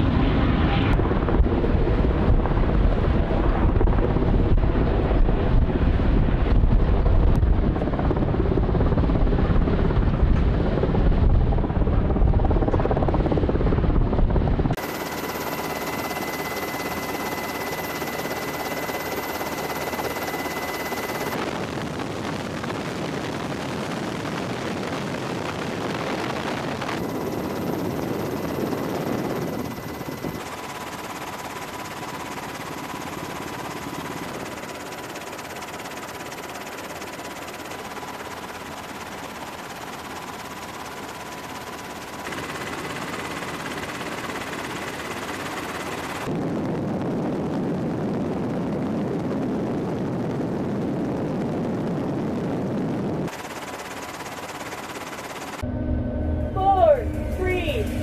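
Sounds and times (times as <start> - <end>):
helicopter engine and rotor: 0.0 - 58.0.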